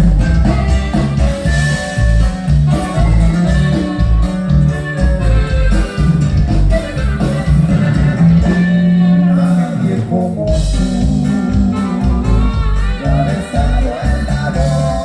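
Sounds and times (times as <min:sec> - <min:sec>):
band music playing loud: 0:00.0 - 0:15.0.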